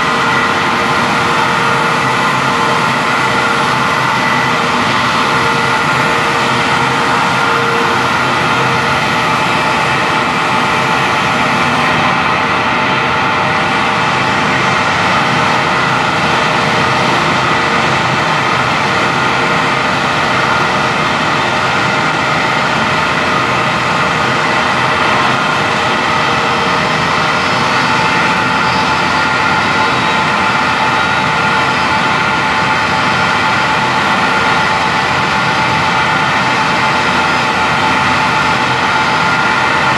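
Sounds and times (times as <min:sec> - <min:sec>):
spray booth fan and water: 0:00.0 - 0:39.9.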